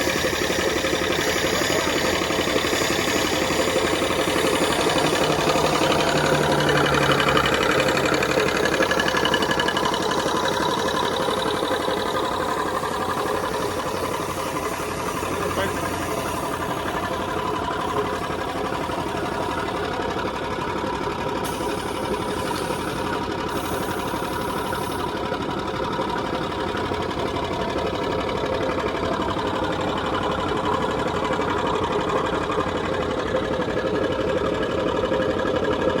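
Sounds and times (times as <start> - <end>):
feed machine mechanical rattle: 0.0 - 36.0.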